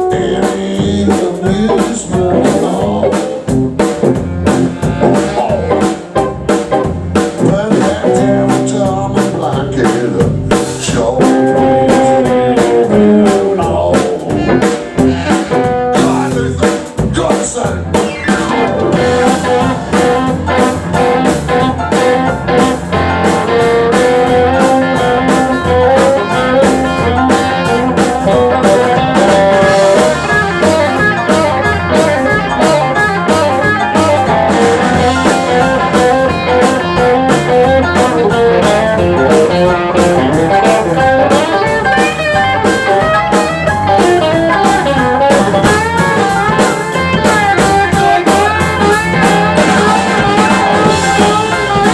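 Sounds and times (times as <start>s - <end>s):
drum kit beat: 0.0s - 51.9s
guitar melody: 0.0s - 51.9s.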